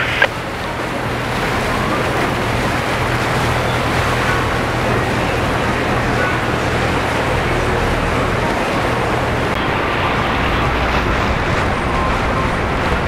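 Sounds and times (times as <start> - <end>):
boat engines rumbling: 0.0 - 13.0
water wash: 0.0 - 13.0
wind noise: 0.0 - 13.0.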